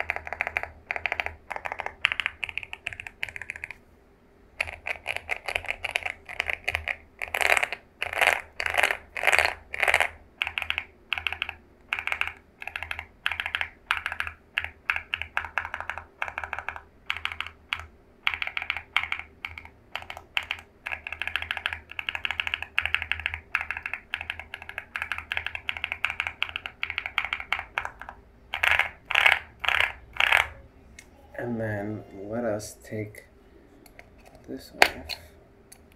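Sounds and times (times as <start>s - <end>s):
mechanical keyboard typing: 0.0s - 3.8s, 4.6s - 30.6s.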